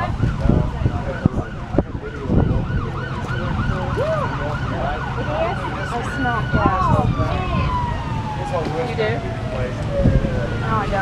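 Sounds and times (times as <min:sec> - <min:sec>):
emergency siren yelping: 0:00.0 - 0:11.0.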